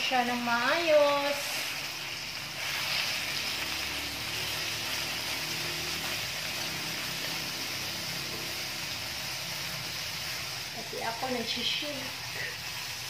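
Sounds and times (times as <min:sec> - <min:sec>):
meat sizzling in a wok: 0:00.0 - 0:13.0
spatula stirring in a wok: 0:00.1 - 0:13.0.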